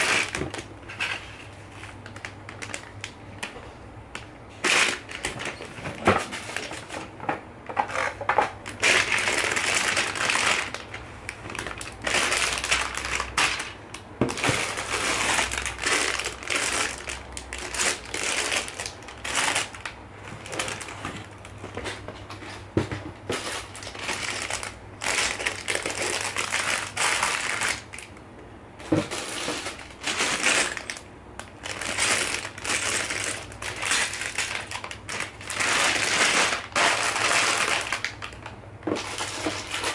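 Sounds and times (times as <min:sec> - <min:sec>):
plastic bags crinkling: 0:00.0 - 0:03.6, 0:04.5 - 0:07.2, 0:07.9 - 0:22.6, 0:23.3 - 0:28.2, 0:28.8 - 0:39.9.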